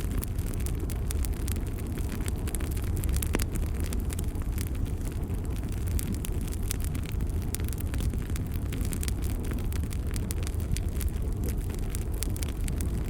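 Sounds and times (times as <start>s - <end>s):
burning wood crackling and popping: 0.0s - 13.0s
rumble of flames: 0.0s - 13.0s.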